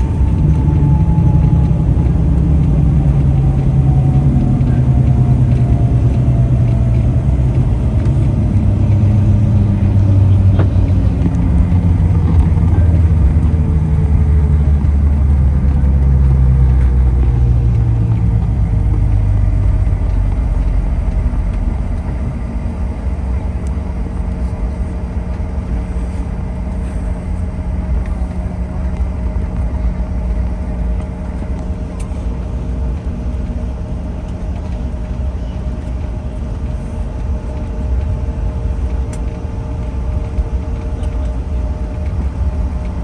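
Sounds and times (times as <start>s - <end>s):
jet engines humming and whining: 0.0s - 43.0s
low cabin rumble: 0.0s - 43.0s.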